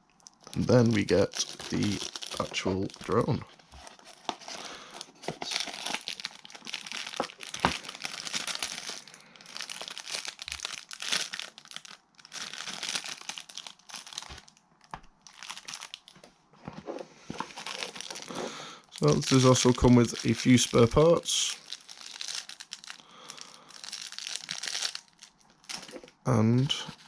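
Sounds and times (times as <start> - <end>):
packaging crinkling: 0.1 - 27.0.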